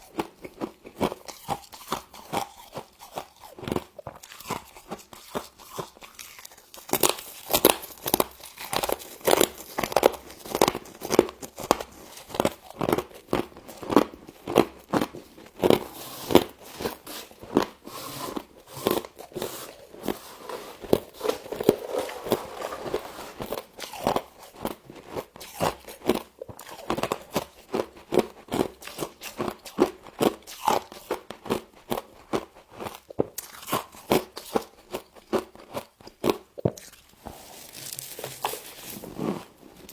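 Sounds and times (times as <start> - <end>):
crunching frost while chewing: 0.0 - 39.9.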